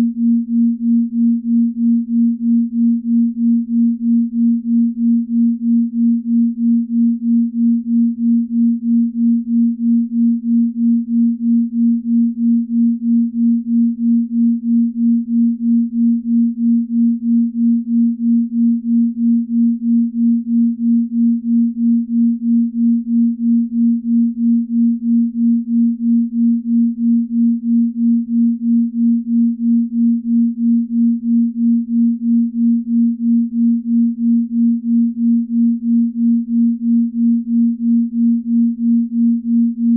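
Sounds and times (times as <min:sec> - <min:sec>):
pulsing low pure tone: 0:00.0 - 0:39.9.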